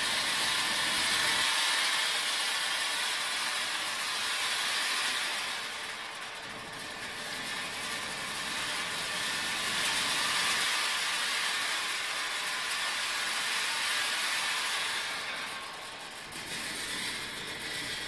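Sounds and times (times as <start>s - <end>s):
roaster drive hissing rattle: 0.0s - 18.0s
seeds pouring onto steel conveyor: 0.0s - 18.0s.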